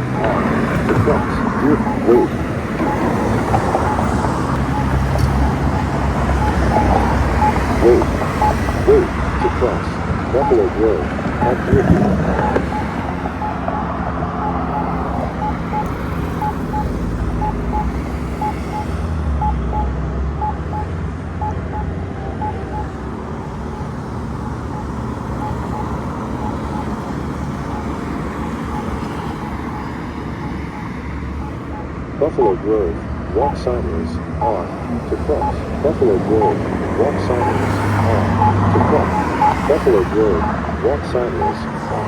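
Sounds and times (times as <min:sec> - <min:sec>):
road traffic: 0:00.0 - 0:42.0
short locator beeps: 0:00.0 - 0:42.0.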